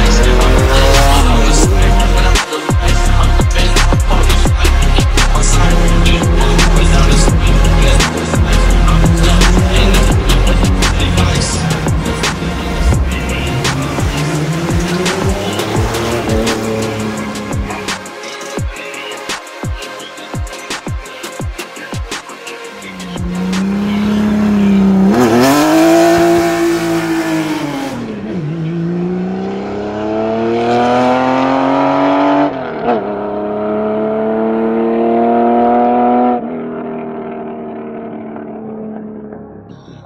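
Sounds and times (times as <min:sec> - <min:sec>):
car exhaust accelerating through gears: 0:00.0 - 0:02.4, 0:03.4 - 0:17.9, 0:23.0 - 0:40.0.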